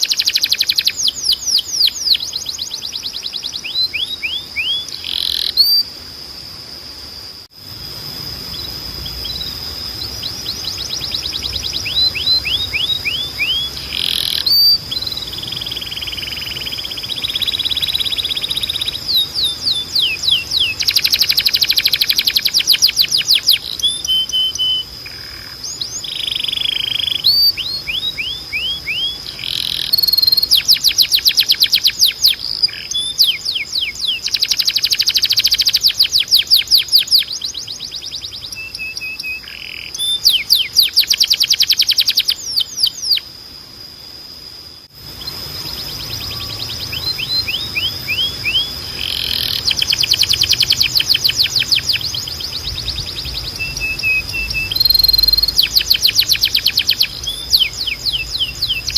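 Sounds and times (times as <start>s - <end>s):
canary singing trills: 0.0s - 6.1s, 8.1s - 43.4s, 45.0s - 58.9s.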